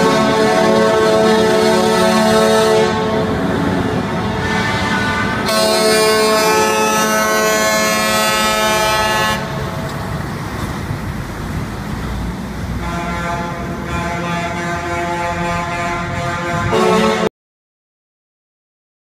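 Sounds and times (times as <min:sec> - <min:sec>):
truck horns blaring: 0:00.0 - 0:10.4, 0:12.4 - 0:17.3
passing trucks rumbling: 0:00.0 - 0:17.3.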